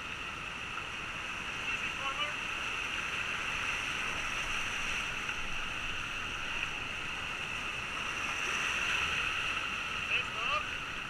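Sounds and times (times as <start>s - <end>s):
whitewater rapids rushing: 0.1s - 11.0s.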